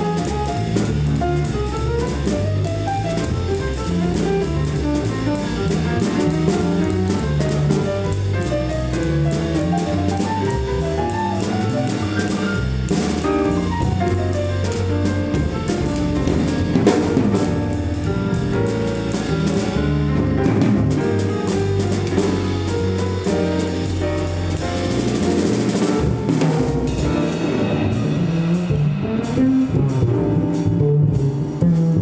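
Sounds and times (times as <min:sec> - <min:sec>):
drum kit with cymbals: 0:00.0 - 0:32.0
grand piano: 0:00.0 - 0:32.0
upright double bass: 0:00.0 - 0:32.0.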